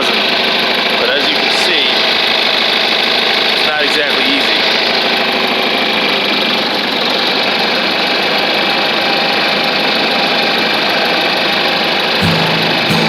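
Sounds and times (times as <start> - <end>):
tractor engine running loudly: 0.0 - 13.0.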